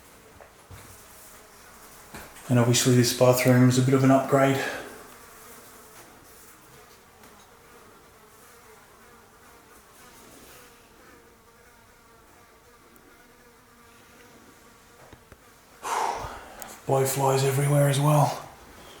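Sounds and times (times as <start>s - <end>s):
flies buzzing: 0.0s - 19.0s.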